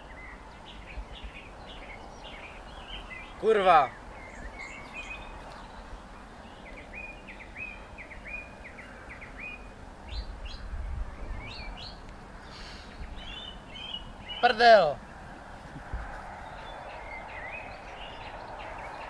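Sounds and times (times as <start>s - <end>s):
faint steady hiss: 0.0s - 15.8s
songbirds chirping: 0.0s - 19.0s.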